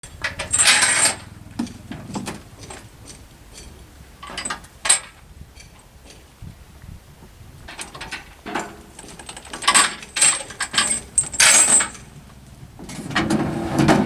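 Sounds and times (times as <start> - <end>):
metallic clanks and knocks: 0.0 - 6.3, 7.7 - 14.0
low engine rumble: 0.0 - 14.0.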